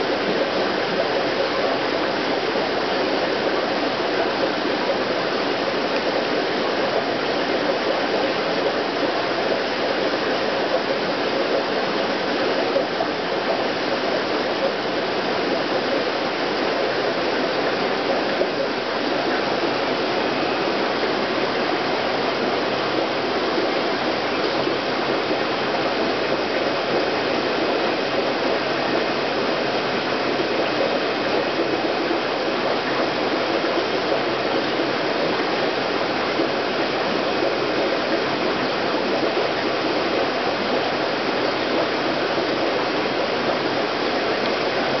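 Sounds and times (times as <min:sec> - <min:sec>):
aquarium water rushing: 0:00.0 - 0:45.0.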